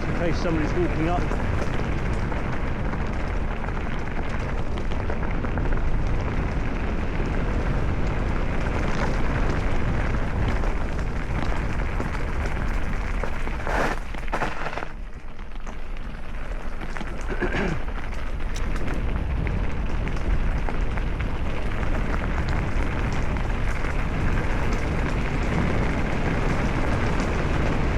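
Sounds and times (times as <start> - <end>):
wind on microphone: 0.0 - 14.8, 16.4 - 27.9
bike rattling: 0.0 - 27.9
bike tyres on gravel: 0.0 - 27.9.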